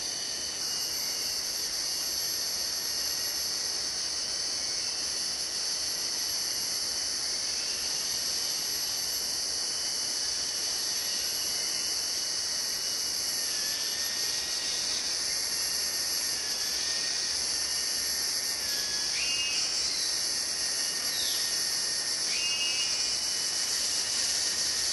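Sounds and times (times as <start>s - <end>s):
insect chorus drone: 0.0s - 24.9s.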